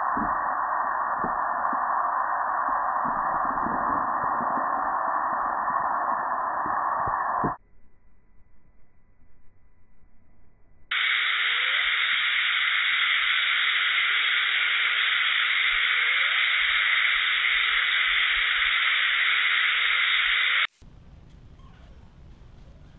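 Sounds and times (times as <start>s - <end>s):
static-like hiss: 0.0s - 7.6s, 10.9s - 22.9s.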